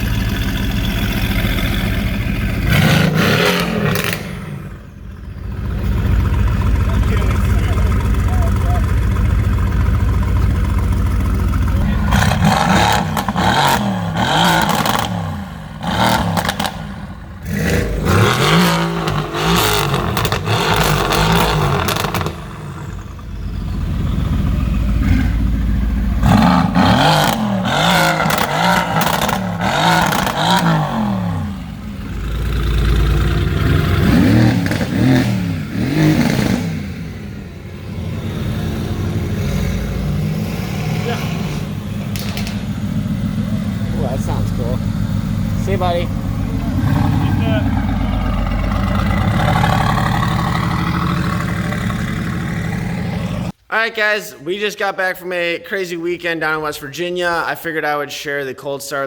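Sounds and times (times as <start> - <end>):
car engine idling: 0.0 - 53.6
car engine revving: 0.0 - 53.6.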